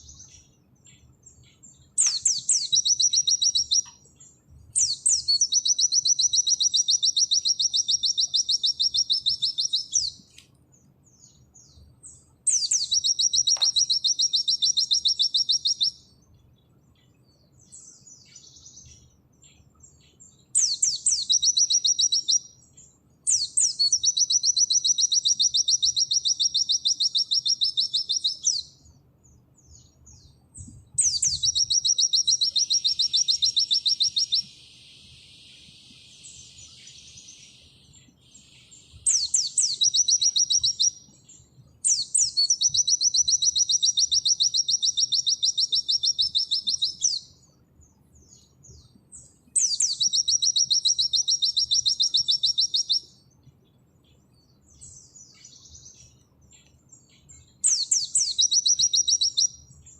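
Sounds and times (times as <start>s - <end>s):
bird singing rapid trills: 0.0s - 59.9s.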